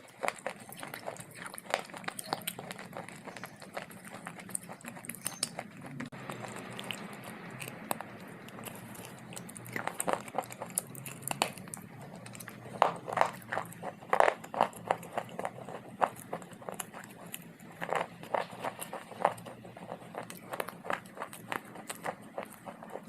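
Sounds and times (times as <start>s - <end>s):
chewing hard clay: 0.0s - 23.0s.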